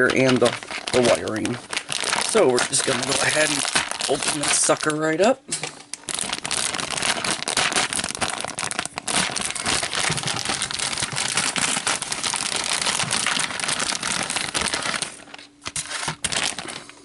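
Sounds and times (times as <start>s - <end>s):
packaging crinkling: 0.0s - 5.3s, 5.9s - 17.0s.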